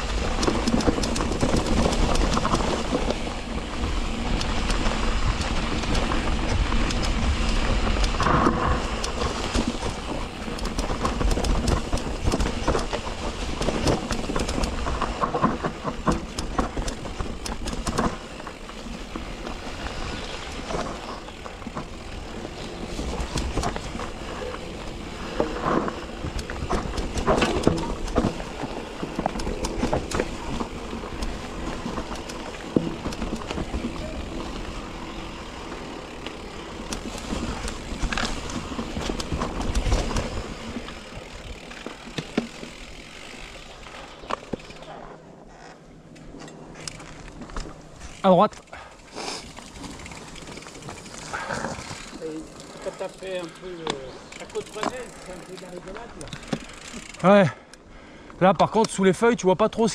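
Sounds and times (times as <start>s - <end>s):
tyres on stones: 0.0s - 57.5s
bike clicks and rattles: 0.0s - 59.9s.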